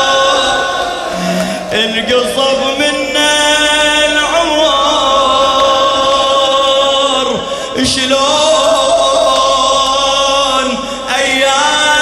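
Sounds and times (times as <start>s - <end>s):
man chanting a lament: 0.0s - 12.0s.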